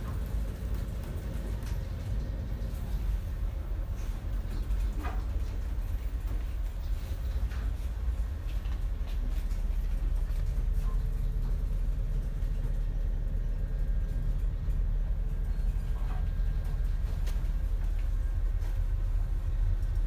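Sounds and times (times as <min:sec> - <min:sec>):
faint steady hum: 0:00.0 - 0:20.0
ship low rumble: 0:00.0 - 0:20.0.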